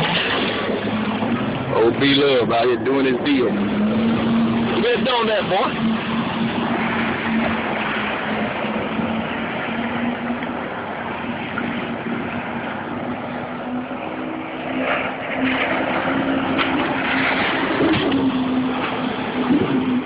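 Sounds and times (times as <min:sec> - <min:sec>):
jet ski engine running: 0:00.0 - 0:20.0
wind and water rushing: 0:00.0 - 0:20.0.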